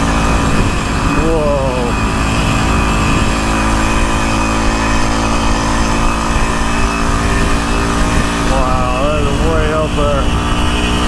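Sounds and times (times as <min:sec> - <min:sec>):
motorized bicycle engine running: 0:00.0 - 0:11.0
wind rushing over microphone: 0:00.0 - 0:11.0.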